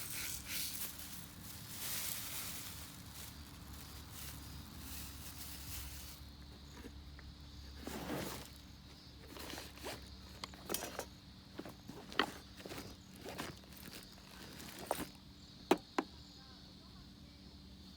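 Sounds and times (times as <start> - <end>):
faint rustling and scraping: 0.0 - 16.1.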